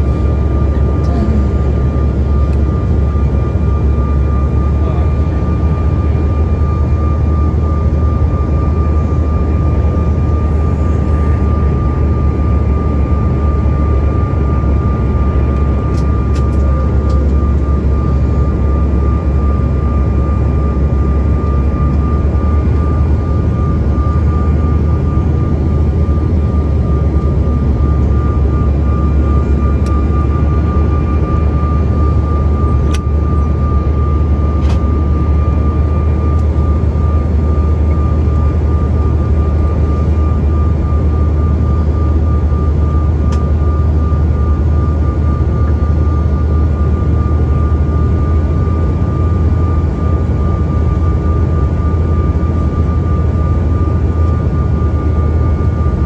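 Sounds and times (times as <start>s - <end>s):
airliner cabin engine rumble: 0.0s - 56.0s
steady high whine: 0.0s - 56.0s.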